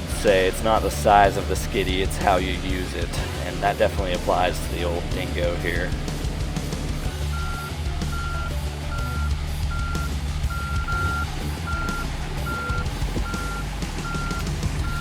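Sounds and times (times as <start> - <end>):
machine engine running: 0.0 - 15.0
backup alarm beeping: 2.0 - 15.0.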